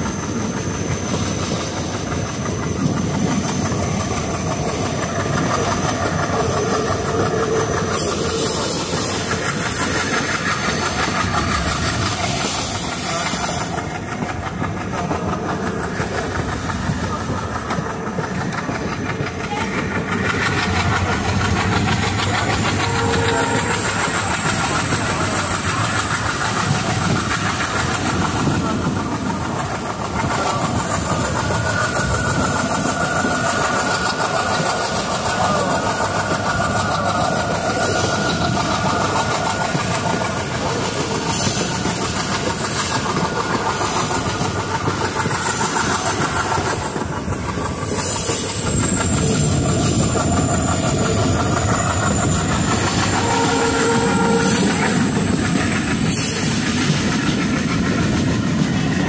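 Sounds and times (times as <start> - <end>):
train wheels rumbling over rails: 0.0 - 59.0.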